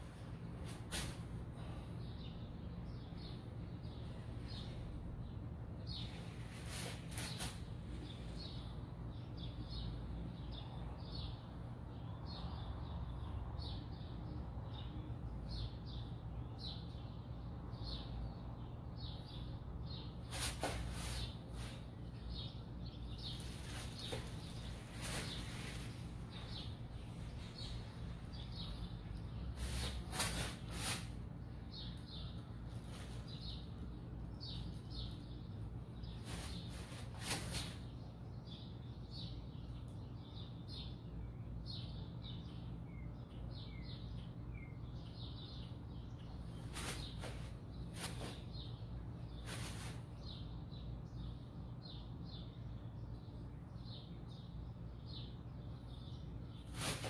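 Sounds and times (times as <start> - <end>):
bird chirping: 0.0 - 57.0
steady low hum: 0.0 - 57.0.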